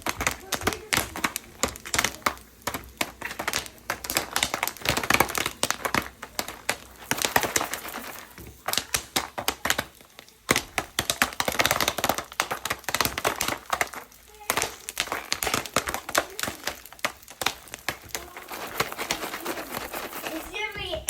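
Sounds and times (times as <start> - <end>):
popcorn popping in a pot: 0.0 - 21.0.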